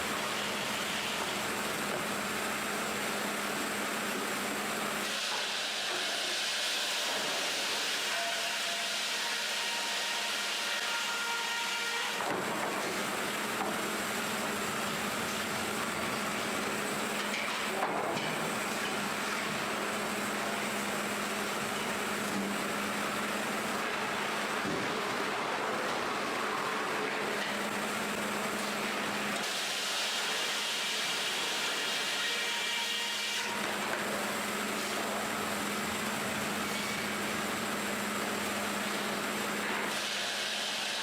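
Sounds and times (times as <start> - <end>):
sawmill machinery running: 0.0 - 41.0.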